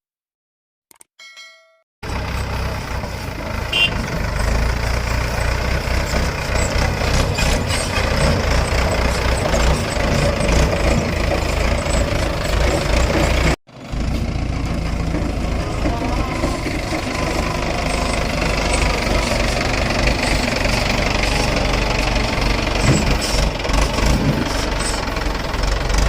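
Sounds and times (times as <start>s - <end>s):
diesel engines running: 2.0s - 26.0s.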